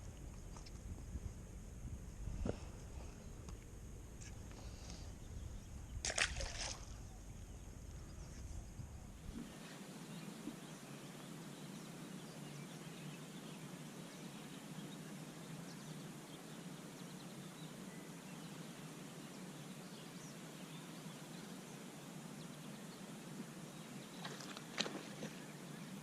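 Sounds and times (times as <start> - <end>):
faint outdoor air hiss: 0.0 - 26.0.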